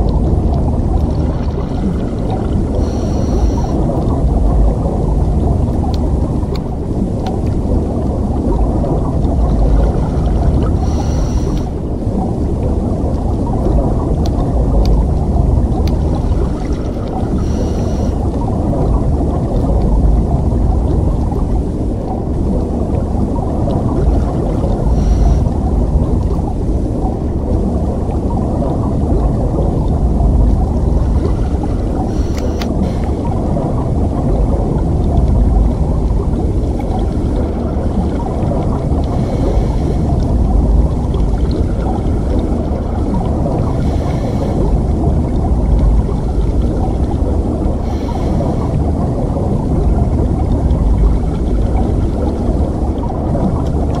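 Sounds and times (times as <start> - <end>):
faint bubbling: 0.0 - 54.0
underwater rumble and wash: 0.0 - 54.0.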